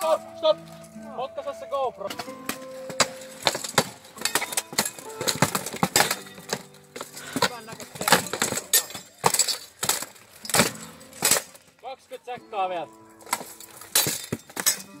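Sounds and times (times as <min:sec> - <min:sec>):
weapons clanging on armour: 0:02.0 - 0:15.0.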